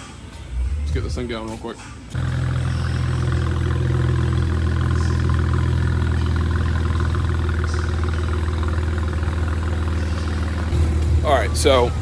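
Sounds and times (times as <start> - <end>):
car engine idling: 2.2 - 12.0.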